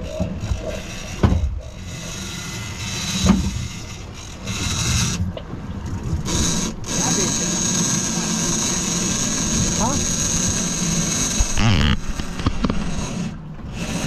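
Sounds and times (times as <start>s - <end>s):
outboard motors running: 0.0s - 14.0s.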